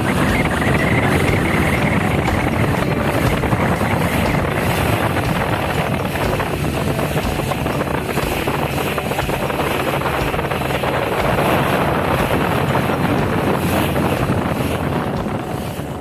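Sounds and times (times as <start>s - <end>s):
low engine hum: 0.0s - 16.0s
wind and sea rushing: 0.0s - 16.0s
wind buffeting microphone: 0.0s - 16.0s.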